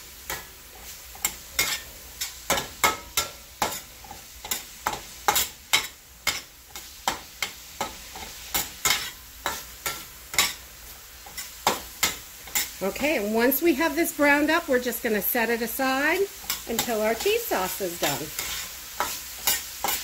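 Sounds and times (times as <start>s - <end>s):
spatula scraping a steel skillet: 0.0s - 13.3s, 16.2s - 20.0s
meat sizzling: 0.0s - 20.0s.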